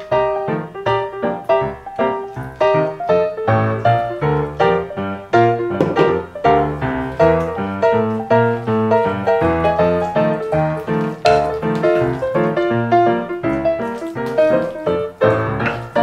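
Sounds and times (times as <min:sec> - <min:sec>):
piano melody: 0:00.0 - 0:16.0.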